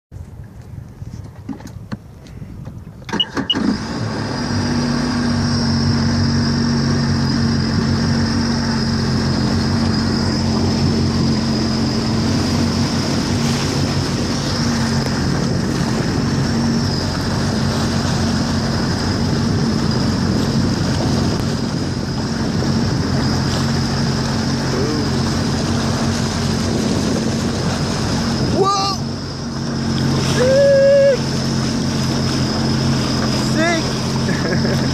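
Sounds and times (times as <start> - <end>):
jet ski engine: 0.2 - 34.9
wind and water rushing: 0.2 - 34.9.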